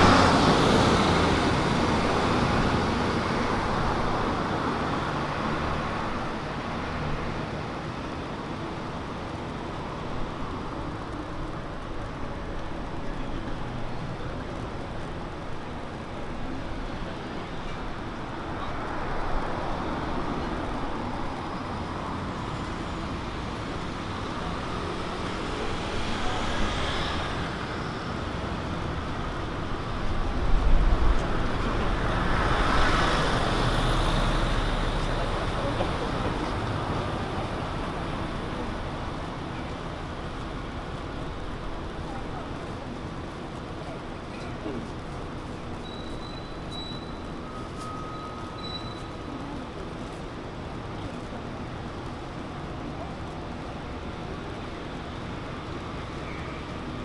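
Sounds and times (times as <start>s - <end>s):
road noise: 0.0s - 57.0s
vehicles passing: 0.0s - 57.0s.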